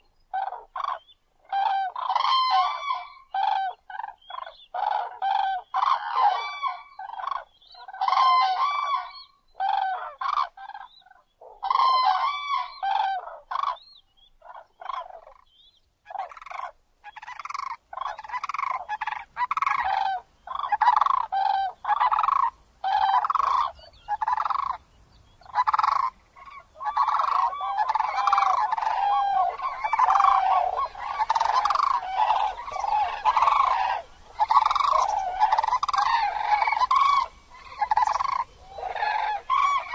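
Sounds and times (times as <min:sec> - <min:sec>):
cranes honking calls: 0:00.3 - 0:10.9, 0:11.5 - 0:13.8, 0:16.1 - 0:24.8, 0:25.4 - 0:39.9.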